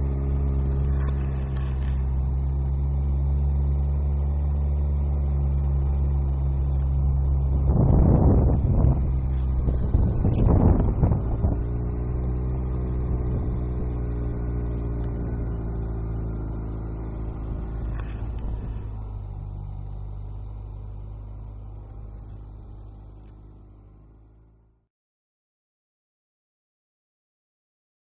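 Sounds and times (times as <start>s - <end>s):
motorcycle engine rumbling: 0.0s - 24.8s.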